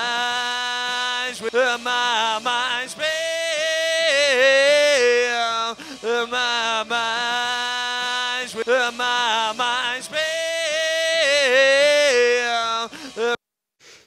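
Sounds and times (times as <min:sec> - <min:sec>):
man singing long held notes: 0:00.0 - 0:13.4.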